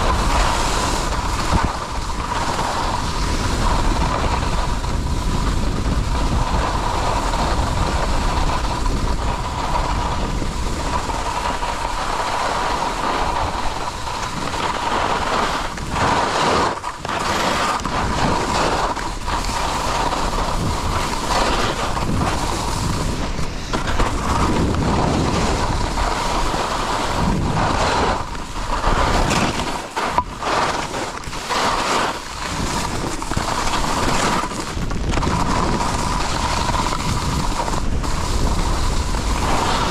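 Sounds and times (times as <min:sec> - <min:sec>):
skis sliding over snow: 0:00.0 - 0:39.9
wind rushing over microphone: 0:00.0 - 0:39.9.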